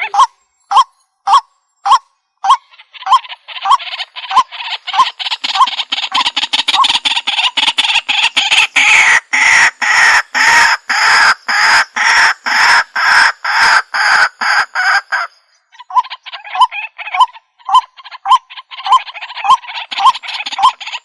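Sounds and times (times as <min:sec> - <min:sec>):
bird harsh croaking calls: 0:00.0 - 0:21.0.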